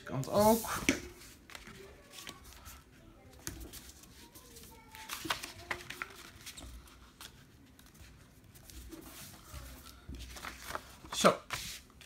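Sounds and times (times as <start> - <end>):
paper rustling and crackling: 0.4 - 12.0.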